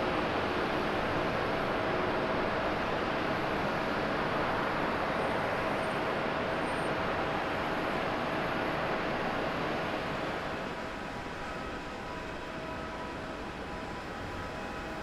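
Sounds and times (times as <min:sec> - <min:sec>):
jet engines rumbling at low power: 0:00.0 - 0:15.0.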